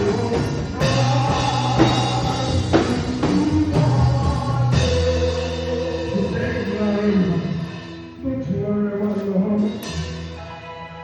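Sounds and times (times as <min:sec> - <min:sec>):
live praise band music: 0:00.0 - 0:11.0.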